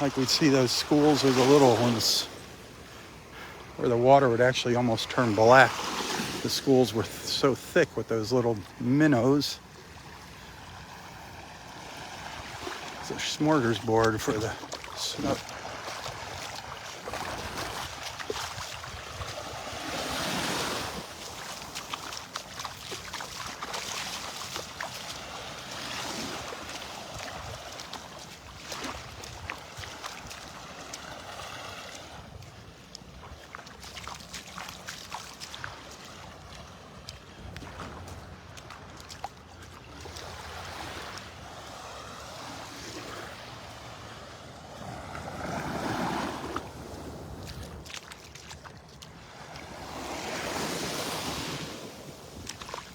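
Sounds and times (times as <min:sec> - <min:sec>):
small waves breaking on shore: 0:00.0 - 0:52.9.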